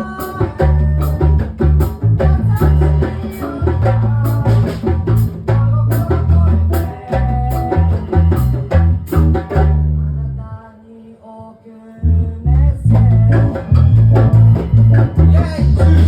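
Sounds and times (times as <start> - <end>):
guitar: 0.0 - 9.8, 12.1 - 16.0
drum kit with cymbal hits: 0.0 - 9.9, 12.9 - 16.0
bass guitar: 0.0 - 10.6, 12.0 - 16.0.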